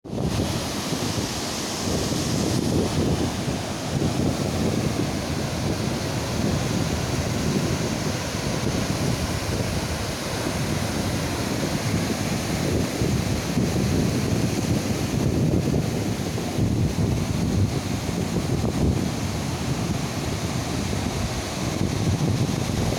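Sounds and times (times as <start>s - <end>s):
ocean surf washing onto beach: 0.0s - 22.9s
wind buffeting microphone: 0.0s - 22.9s.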